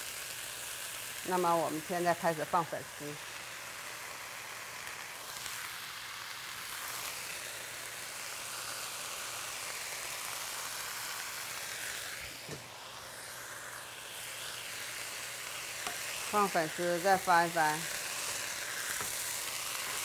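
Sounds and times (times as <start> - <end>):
bean sprouts sizzling in a wok: 0.0 - 20.0.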